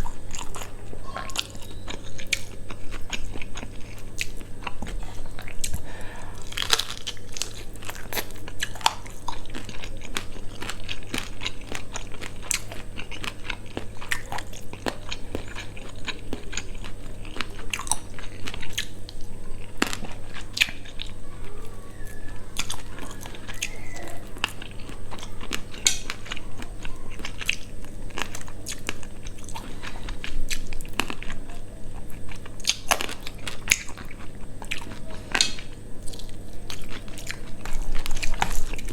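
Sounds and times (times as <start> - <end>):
crunching and wet chewing: 0.0 - 38.9
steady low hum: 0.0 - 38.9.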